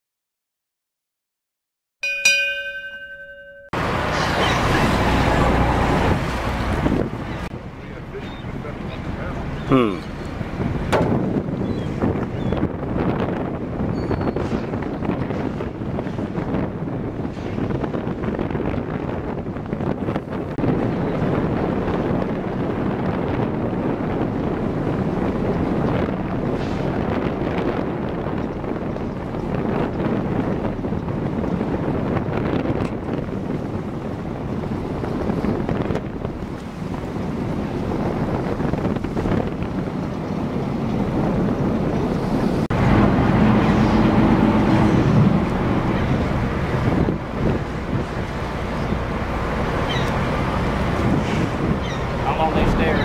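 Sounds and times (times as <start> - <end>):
boat engine hum: 2.0 - 14.4, 17.9 - 53.0
wind buffeting microphone: 2.0 - 53.0
choppy water washing: 3.8 - 53.0.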